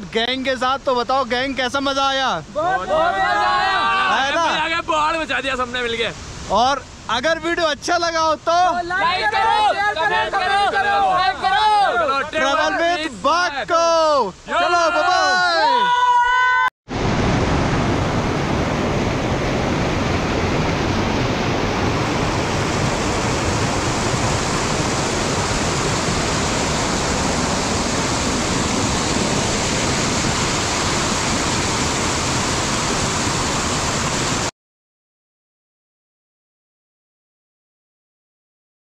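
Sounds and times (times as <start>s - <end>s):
waterfall roaring: 0.3s - 34.5s.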